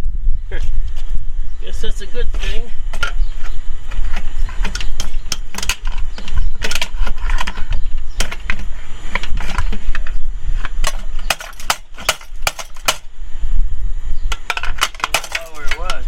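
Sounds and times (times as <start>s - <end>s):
low rumble: 0.0s - 15.1s.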